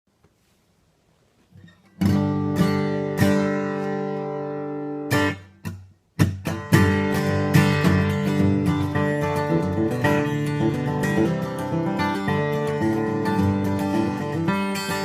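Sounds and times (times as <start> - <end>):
acoustic guitar chords strummed: 1.6 - 15.0.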